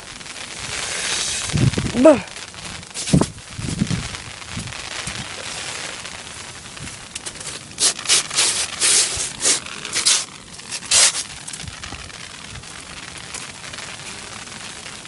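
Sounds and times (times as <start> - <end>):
hail and rain falling: 0.0 - 15.0
loud rough noise bursts: 0.0 - 15.0.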